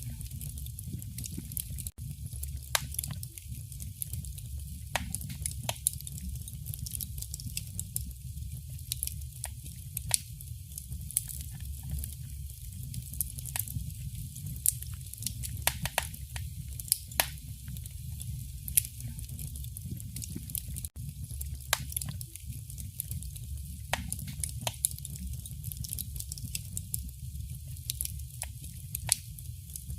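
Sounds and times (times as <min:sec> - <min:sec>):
low rumble of fire: 0:00.0 - 0:29.9
wood fire popping and snapping: 0:00.0 - 0:29.9.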